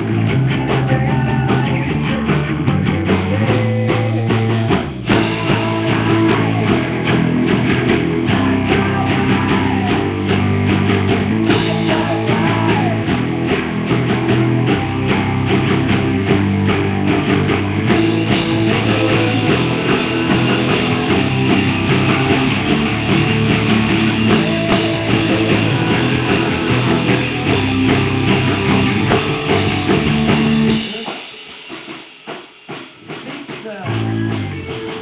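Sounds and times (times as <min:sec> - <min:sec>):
rock band playing live: 0:00.0 - 0:35.0.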